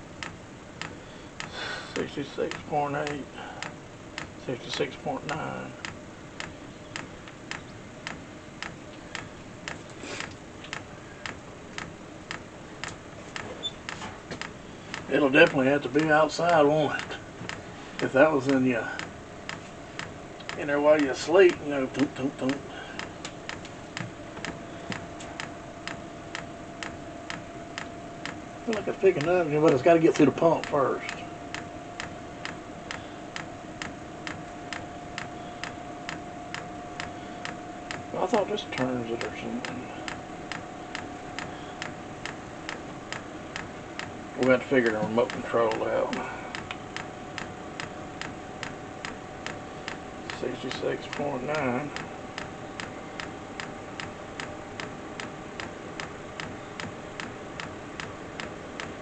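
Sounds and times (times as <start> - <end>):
faint steady tone: 0.0 - 59.0
fuel pump ticking: 0.0 - 59.0
heater hum: 0.0 - 59.0.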